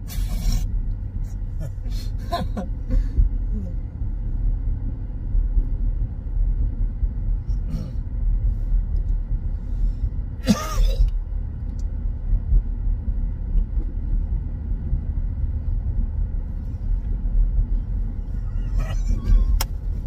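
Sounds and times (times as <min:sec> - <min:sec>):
road and engine rumble in car: 0:00.0 - 0:20.0.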